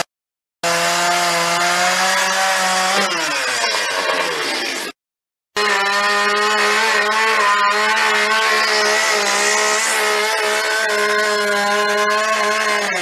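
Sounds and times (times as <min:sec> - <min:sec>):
chainsaw cutting wood: 0:00.0 - 0:05.0, 0:05.6 - 0:13.0.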